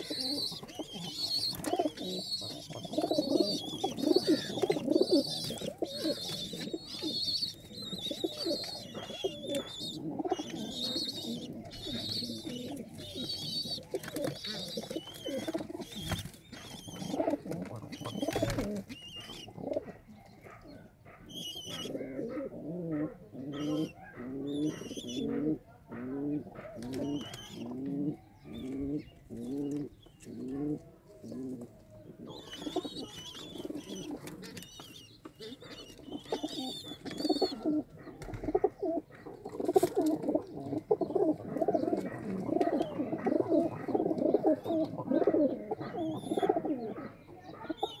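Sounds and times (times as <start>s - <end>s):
pigeons cooing: 0.0s - 48.0s.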